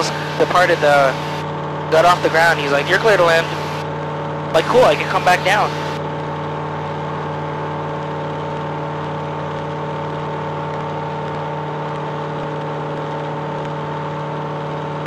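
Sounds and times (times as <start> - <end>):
aircraft engine and propeller droning: 0.0 - 15.0.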